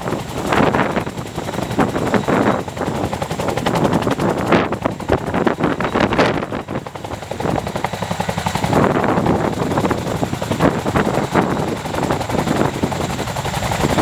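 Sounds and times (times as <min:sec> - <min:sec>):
helicopter engines rushing: 0:00.0 - 0:14.0
helicopter rotor blade chop: 0:00.0 - 0:14.0.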